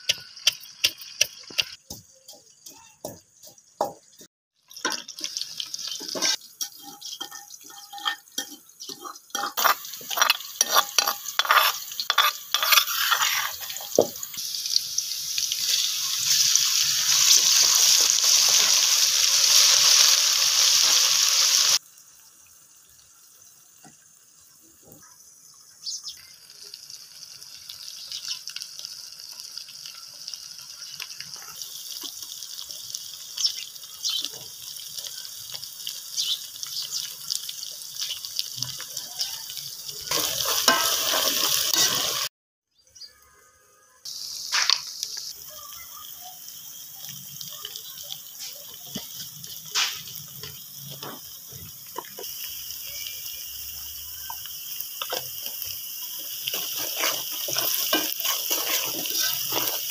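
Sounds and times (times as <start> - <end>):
onions sizzling in oil: 0.0 - 42.3, 44.0 - 59.9.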